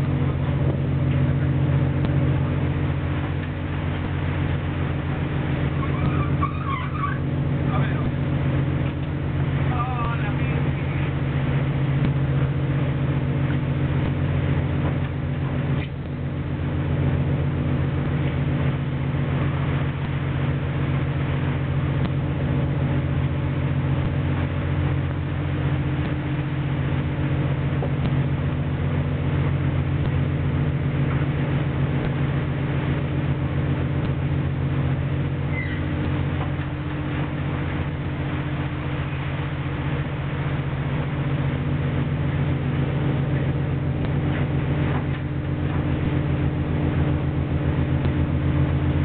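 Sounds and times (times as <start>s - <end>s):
boat engine droning: 0.0s - 49.0s
constant rushing noise: 0.0s - 49.0s.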